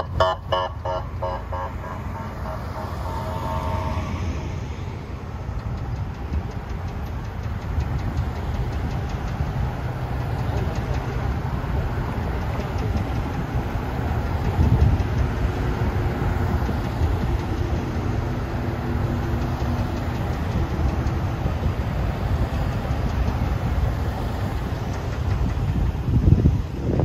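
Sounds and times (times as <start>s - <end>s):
vehicles driving slowly past: 0.0s - 27.0s.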